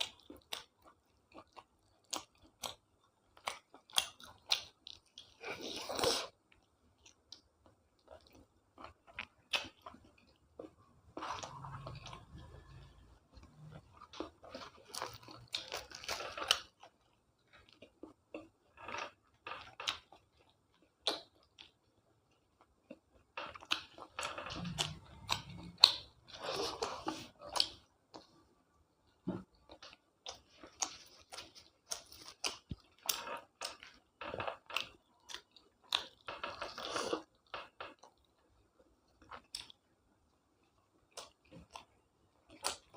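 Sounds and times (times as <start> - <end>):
person chewing and crunching: 0.0 - 28.5, 29.1 - 39.9, 40.6 - 42.9.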